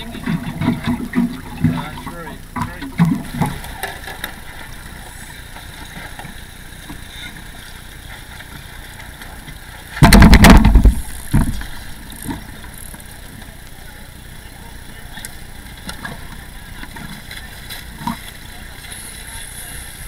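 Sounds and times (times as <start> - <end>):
water against hull: 0.0 - 20.0.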